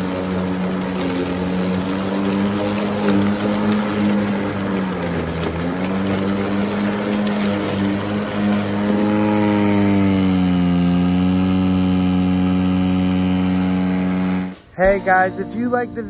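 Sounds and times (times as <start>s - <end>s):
electric lawn mower cutting grass: 0.0s - 16.0s.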